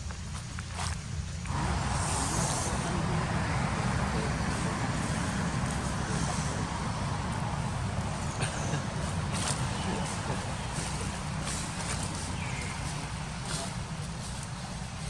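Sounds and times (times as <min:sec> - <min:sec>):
motor vehicle rumble and road noise: 0:00.0 - 0:15.0.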